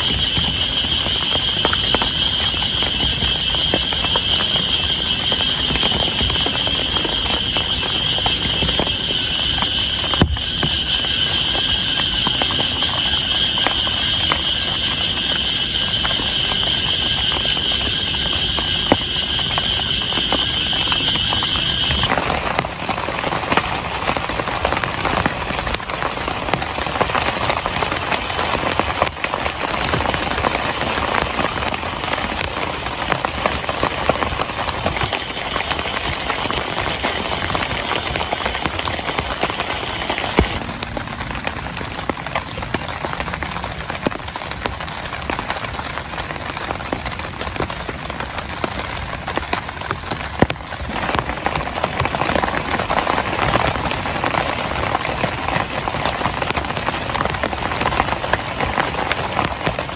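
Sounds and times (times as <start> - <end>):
heavy rain falling: 0.0 - 59.9
raindrops striking a surface: 0.0 - 59.9.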